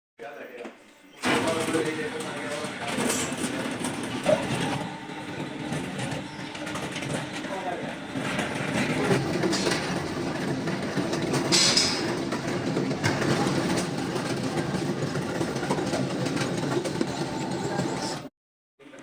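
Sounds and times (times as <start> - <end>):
factory machinery clattering: 1.2 - 18.3.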